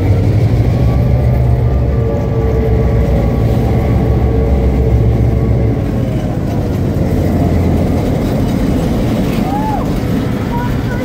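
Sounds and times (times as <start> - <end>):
diesel locomotive engine hum: 0.0 - 11.0.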